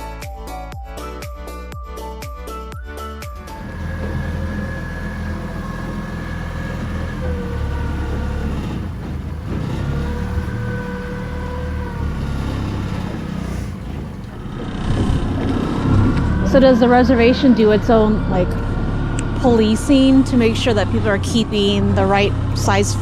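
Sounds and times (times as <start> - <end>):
boat motor rumbling: 3.5 - 23.0
faint engine whine: 3.5 - 23.0.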